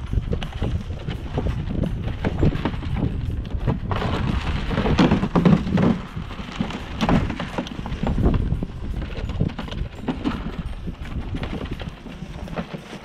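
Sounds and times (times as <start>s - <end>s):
goats crunching grain: 0.0s - 13.0s.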